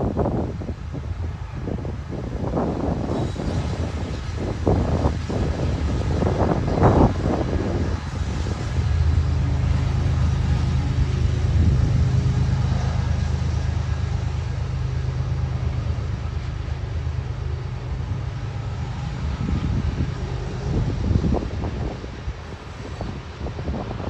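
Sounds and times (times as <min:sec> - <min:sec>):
diesel locomotives humming: 0:00.0 - 0:24.0.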